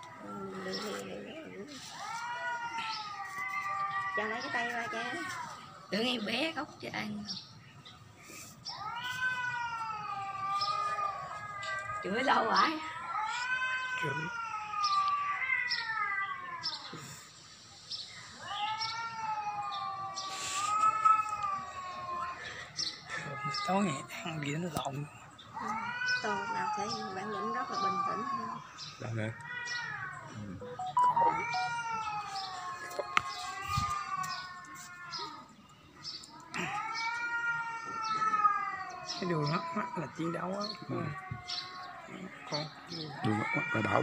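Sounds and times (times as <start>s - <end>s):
cat yowling: 0.0s - 5.5s, 8.7s - 17.1s, 18.4s - 24.4s, 25.5s - 35.5s, 36.3s - 44.0s.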